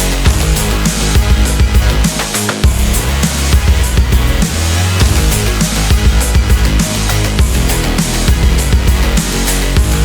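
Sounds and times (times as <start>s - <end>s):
rock music with distorted guitars: 0.0s - 10.0s.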